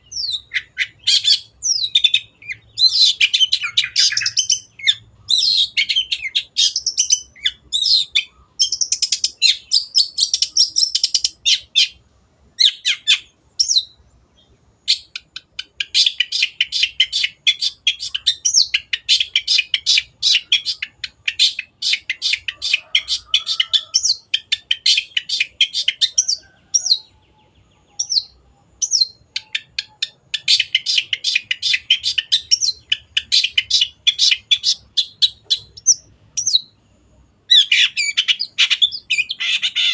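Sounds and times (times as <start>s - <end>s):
bird chattering song: 0.0s - 12.0s, 12.6s - 39.9s.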